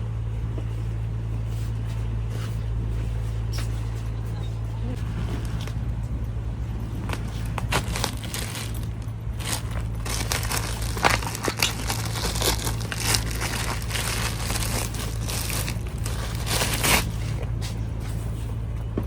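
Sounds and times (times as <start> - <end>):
steady low hum: 0.0 - 19.0
rustling and crinkling: 0.3 - 19.0.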